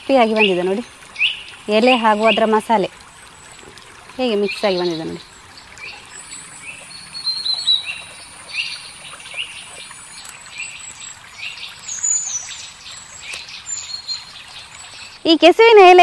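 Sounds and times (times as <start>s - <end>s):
birds chirping: 0.0s - 16.0s
faint background hiss: 0.0s - 16.0s.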